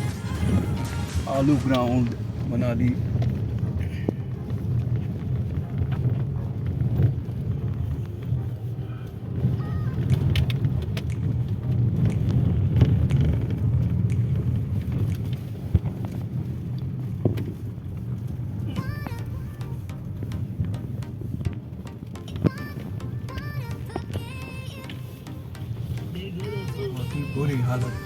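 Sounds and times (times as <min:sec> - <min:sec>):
vehicle rumbling on rough road: 0:00.0 - 0:28.0.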